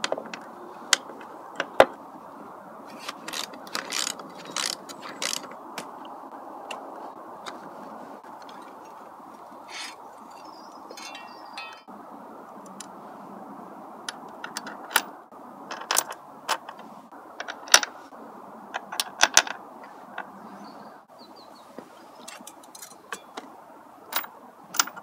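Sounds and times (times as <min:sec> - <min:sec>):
steady background noise: 0:00.0 - 0:25.0.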